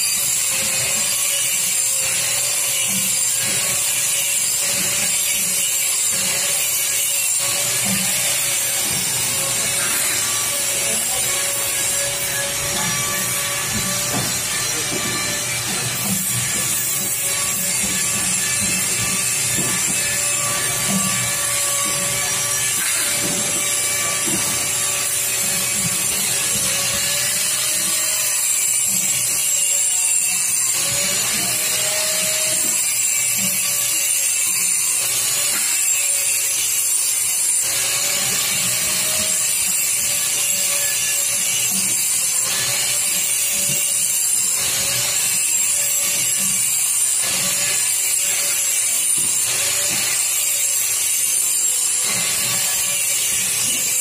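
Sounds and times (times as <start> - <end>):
workshop machines humming and hissing: 0.0 - 54.0.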